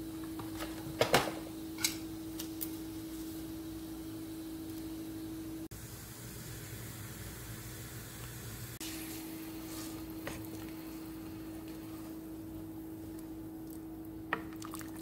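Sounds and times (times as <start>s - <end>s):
electrical hum: 0.0s - 15.0s
water boiling in a pot: 0.0s - 15.0s.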